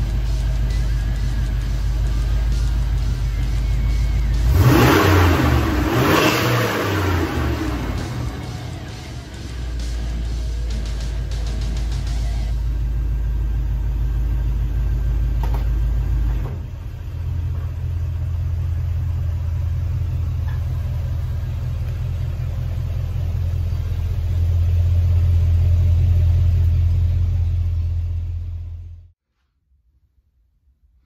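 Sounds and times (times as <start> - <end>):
car engine idling: 0.0 - 29.2.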